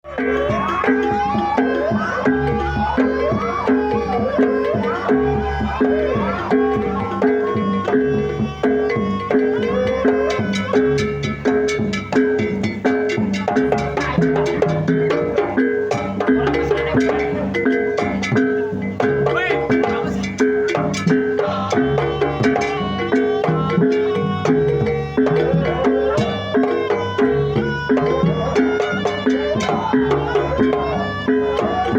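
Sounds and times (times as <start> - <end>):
drum strikes: 0.1 - 31.9.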